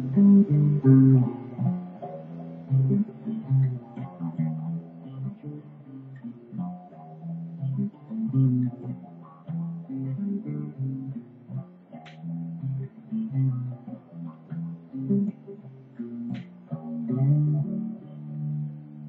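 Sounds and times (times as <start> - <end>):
low electric guitar notes: 0.0 - 19.0.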